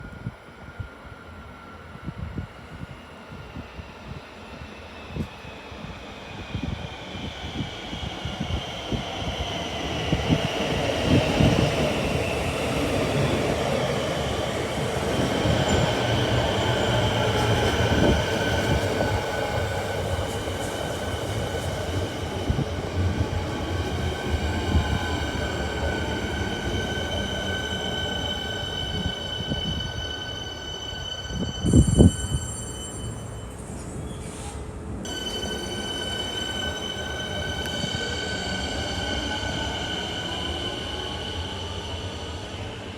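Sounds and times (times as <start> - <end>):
high-pitched train whine: 0.0 - 42.9
train wheels rumbling on rails: 2.0 - 42.9.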